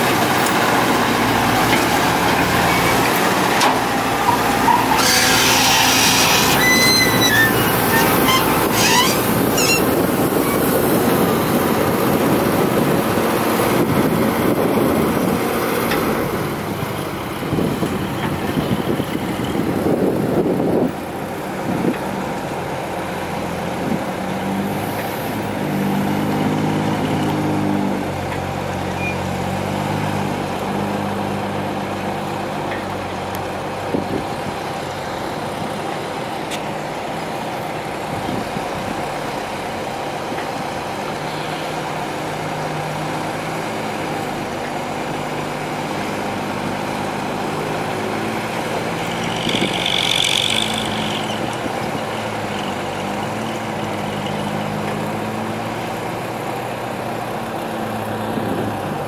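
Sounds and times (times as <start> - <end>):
heavy diesel engines running: 0.0 - 59.0.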